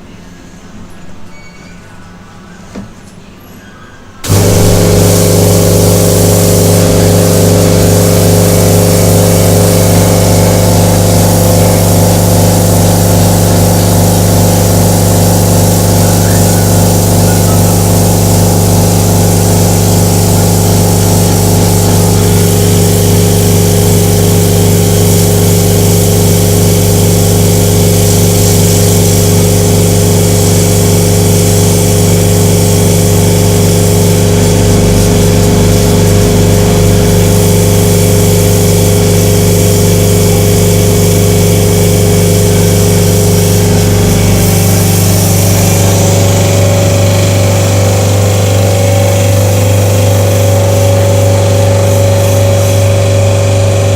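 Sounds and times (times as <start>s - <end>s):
parts washer motor and pump hum: 0.0s - 53.9s
spray hissing: 4.2s - 53.9s.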